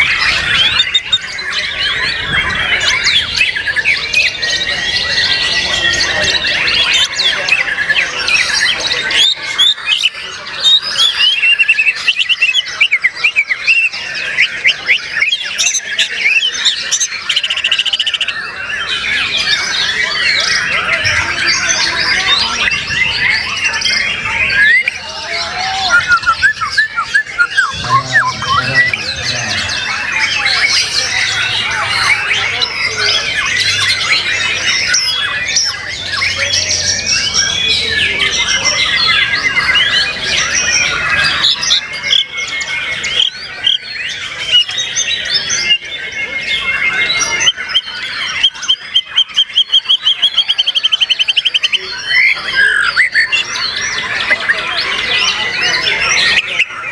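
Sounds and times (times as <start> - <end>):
many birds singing: 0.0 - 56.9.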